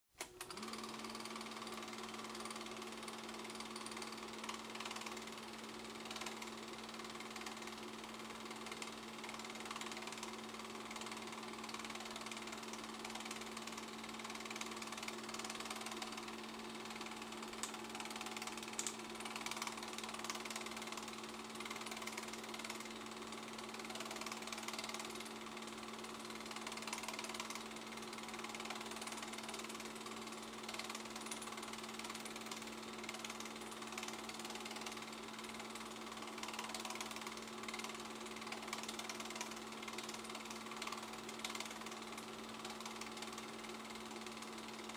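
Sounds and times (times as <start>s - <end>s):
film projector clatter: 0.1s - 44.9s
projector motor hum: 0.2s - 44.9s.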